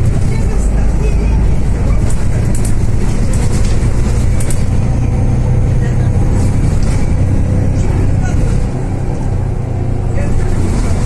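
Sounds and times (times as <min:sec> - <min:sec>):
bus diesel engine humming: 0:00.0 - 0:11.0.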